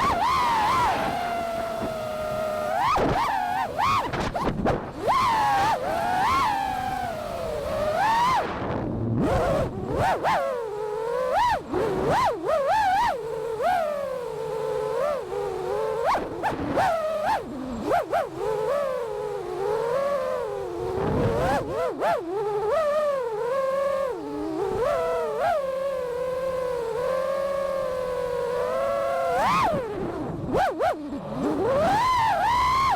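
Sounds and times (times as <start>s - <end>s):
drone motors whining: 0.0s - 32.9s.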